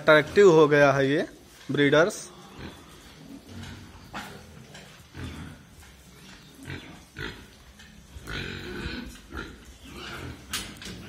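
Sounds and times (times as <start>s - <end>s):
pigs grunting: 2.0s - 11.0s.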